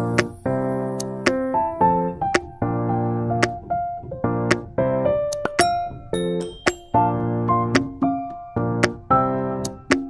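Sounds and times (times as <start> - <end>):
held keyboard chords: 0.0 - 10.0.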